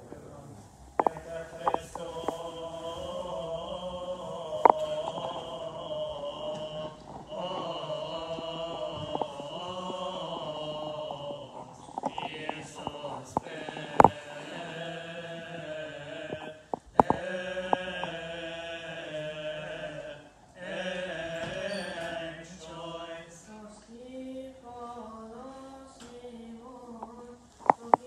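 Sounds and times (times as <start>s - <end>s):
voices singing a slow hymn: 1.0s - 28.0s.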